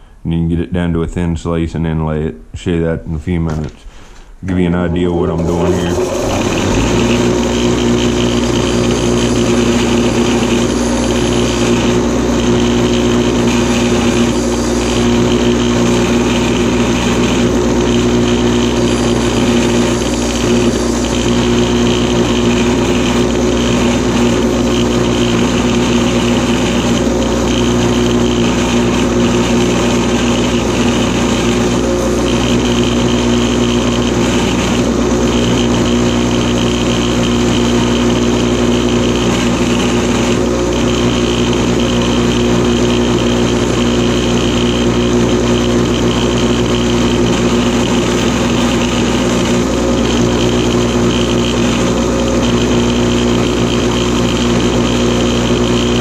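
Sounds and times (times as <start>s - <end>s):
bench grinder humming: 5.0s - 56.0s
antler grinding on stone wheel: 5.4s - 54.6s.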